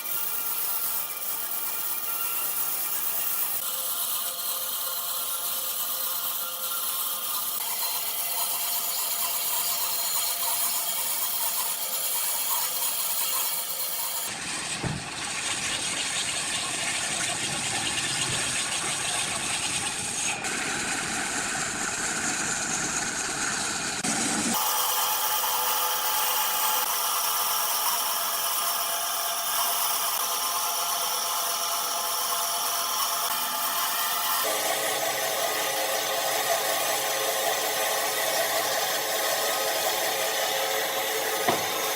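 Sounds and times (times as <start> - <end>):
power tools cutting wood: 0.0 - 16.6, 17.4 - 41.9.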